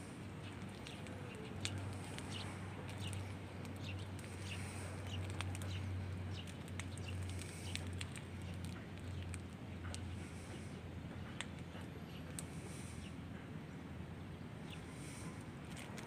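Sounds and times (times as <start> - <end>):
small birds chirping: 0.0 - 15.5
steady low hum: 0.0 - 16.0.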